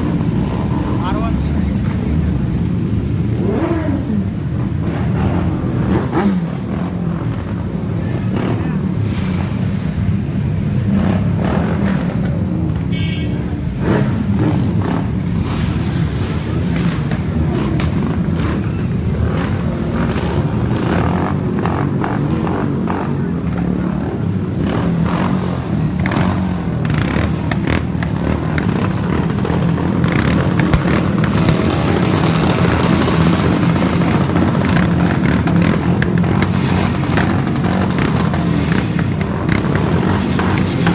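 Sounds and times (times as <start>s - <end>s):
motorcycle engines rumbling: 0.0s - 40.9s.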